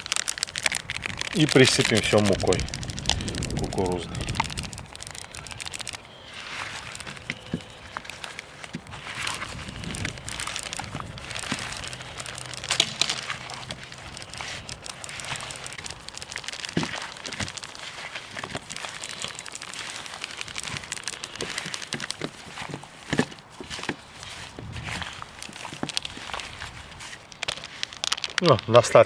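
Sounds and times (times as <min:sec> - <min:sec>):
fish patted in flour rustling: 0:00.0 - 0:28.8.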